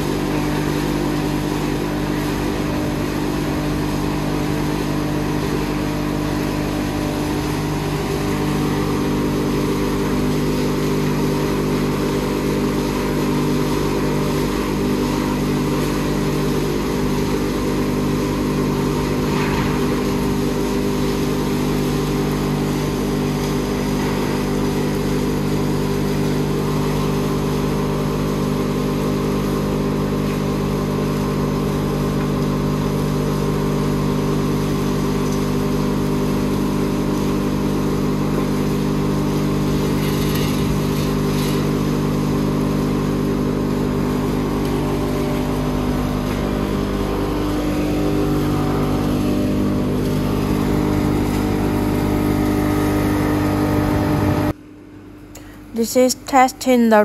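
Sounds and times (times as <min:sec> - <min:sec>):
hammer mill crusher humming: 0:00.0 - 0:56.1.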